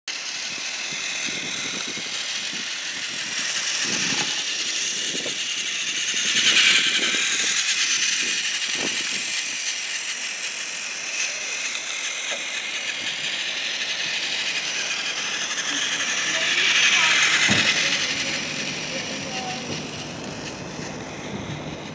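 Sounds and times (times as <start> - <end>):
toy train motor whirring and rattling: 0.1 - 21.9.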